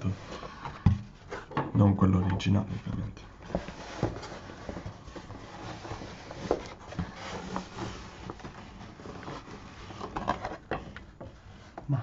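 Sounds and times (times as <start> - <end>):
cardboard scraping and rustling: 0.0 - 1.9, 2.5 - 12.0.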